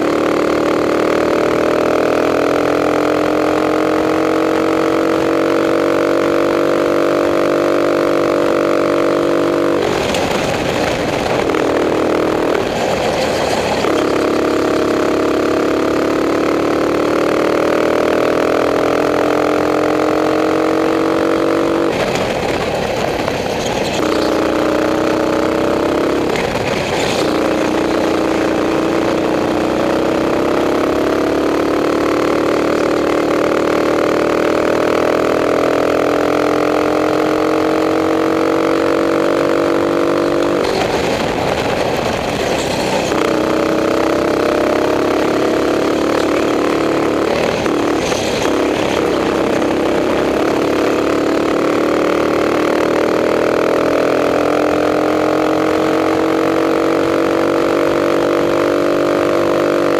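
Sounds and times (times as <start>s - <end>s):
racing kart engine revving: 0.0s - 59.9s.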